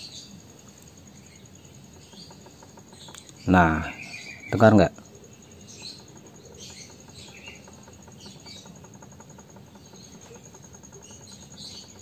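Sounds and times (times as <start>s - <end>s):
birds chirping: 0.0s - 12.0s
faint mechanical clicking: 0.4s - 12.0s.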